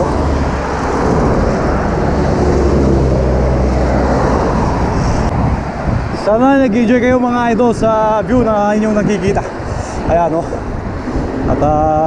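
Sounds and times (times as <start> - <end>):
car passing: 0.0 - 11.7
road traffic: 0.0 - 12.0
wind rushing over microphone: 0.0 - 12.0.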